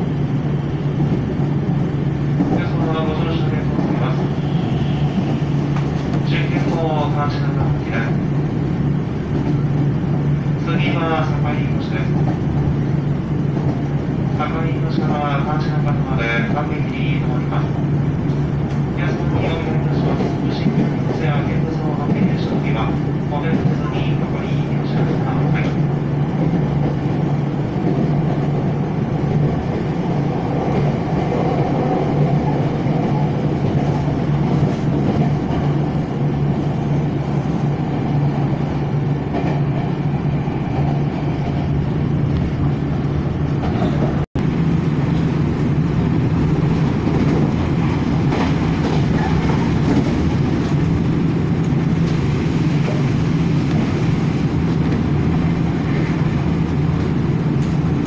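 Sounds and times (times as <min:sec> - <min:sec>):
train wheels on rail: 0:00.0 - 0:58.0.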